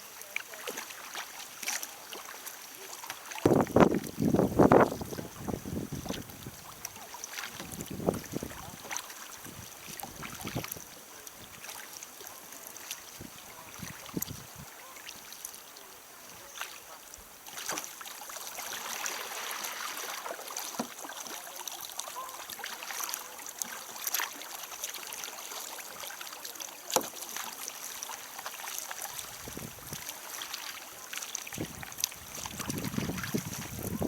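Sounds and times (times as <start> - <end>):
water splashing around kayak: 0.0 - 34.0.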